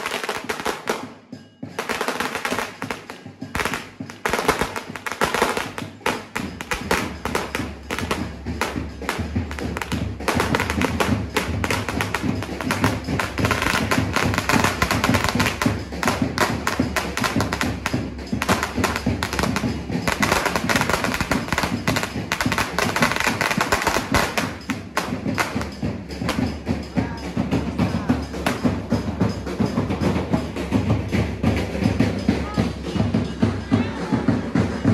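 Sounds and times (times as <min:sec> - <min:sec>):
firecracker string bangs: 0:00.0 - 0:34.9.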